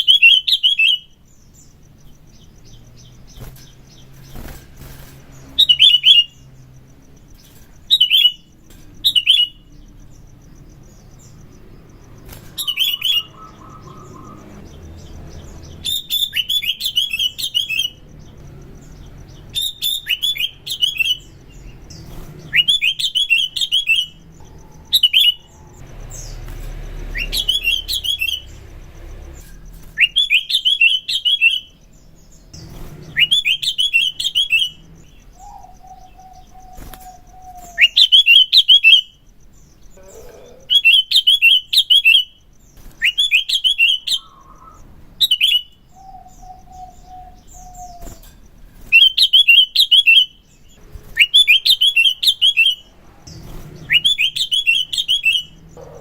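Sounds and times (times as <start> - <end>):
bulbul chirping song: 0.0 - 56.0.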